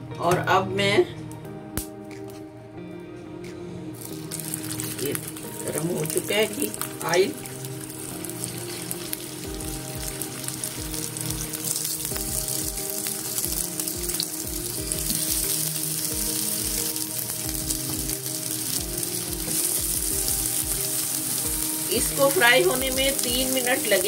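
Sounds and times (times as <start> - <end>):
hot oil sizzling in a pan: 4.0 - 24.0.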